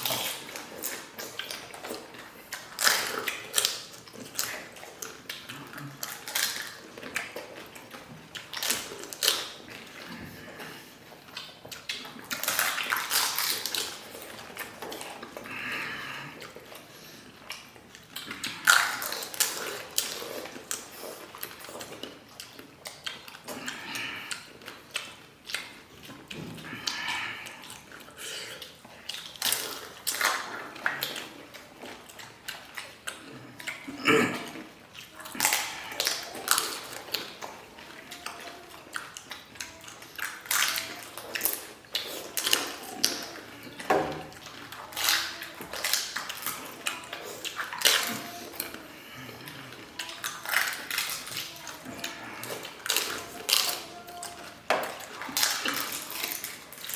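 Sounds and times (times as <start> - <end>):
crisp shells cracking and chewed: 0.0 - 56.9.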